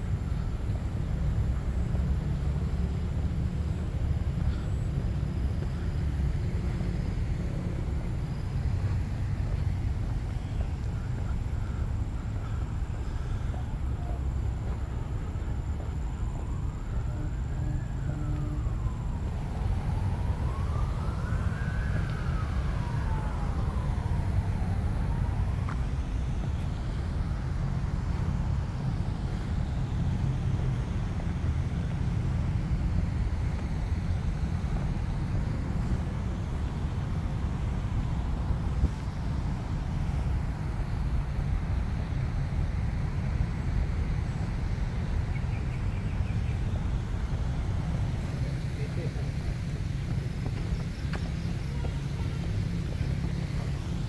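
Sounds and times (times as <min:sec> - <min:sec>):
emergency vehicle siren wailing: 0:00.0 - 0:54.0.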